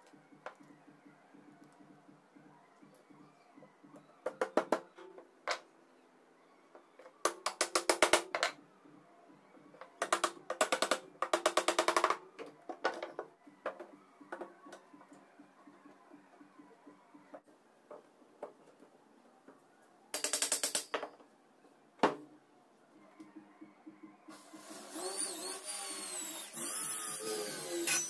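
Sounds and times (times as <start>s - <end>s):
faint background music: 0.0s - 28.0s.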